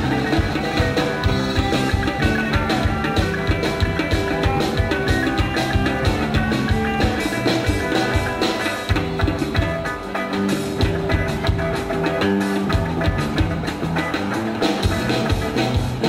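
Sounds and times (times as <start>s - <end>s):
driving drum beat: 0.0s - 16.0s
live rock band playing: 0.0s - 16.0s.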